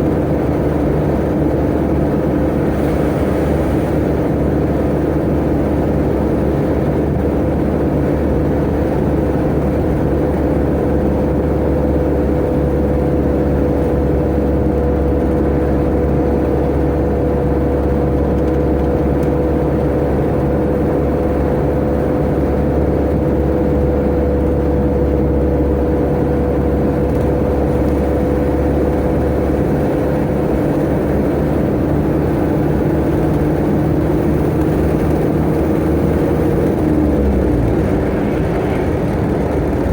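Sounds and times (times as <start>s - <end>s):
truck engine rumble with whine: 0.0s - 39.9s.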